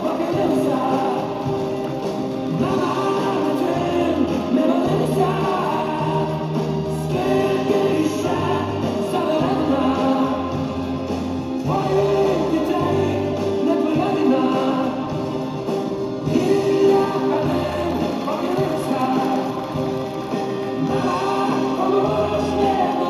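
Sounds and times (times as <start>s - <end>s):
choir-like singing: 0.0s - 23.0s.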